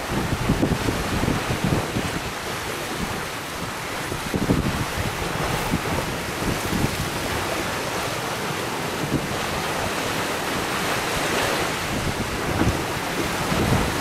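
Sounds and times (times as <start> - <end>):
water rushing along hull: 0.0 - 14.0
wind buffeting microphone: 0.0 - 14.0.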